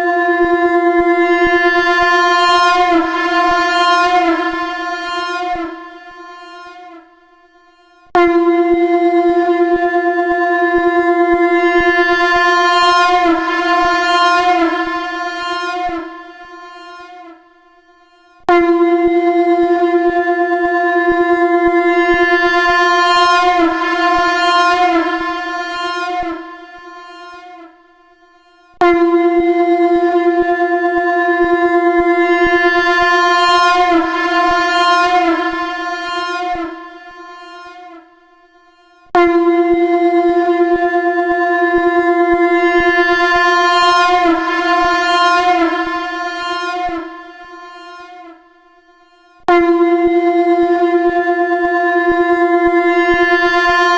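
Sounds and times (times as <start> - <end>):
conch shell blown: 0.0 - 53.9.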